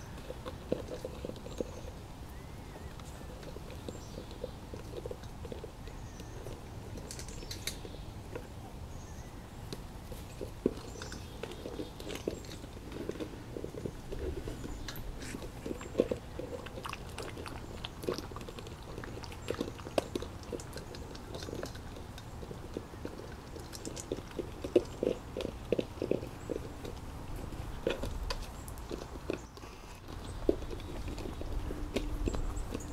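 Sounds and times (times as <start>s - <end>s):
puppies eating kibble from bowls: 0.0s - 32.9s
puppies gnawing plastic container: 0.0s - 32.9s.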